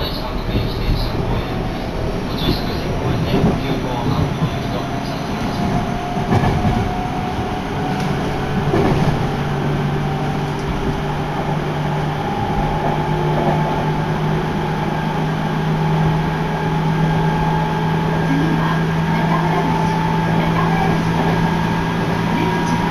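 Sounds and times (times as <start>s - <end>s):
wheels rumbling on rail: 0.0s - 22.9s.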